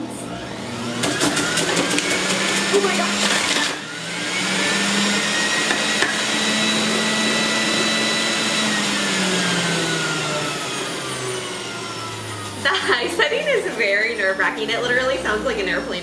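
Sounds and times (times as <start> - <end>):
juicer motor whining: 0.0 - 16.0.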